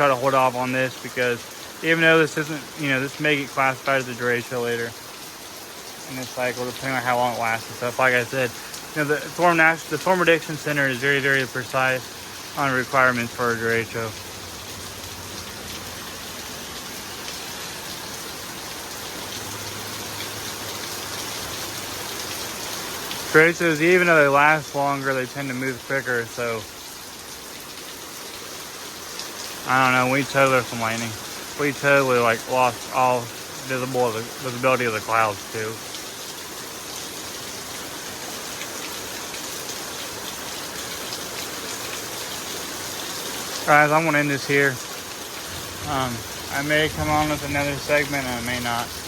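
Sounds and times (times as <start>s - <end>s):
heavy rain: 0.0s - 49.0s.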